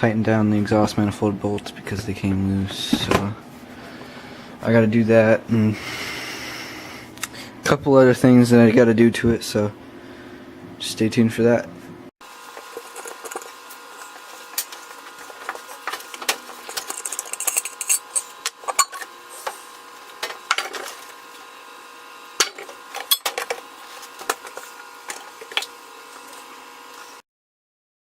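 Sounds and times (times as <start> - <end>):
steady high hum: 0.0 - 27.2.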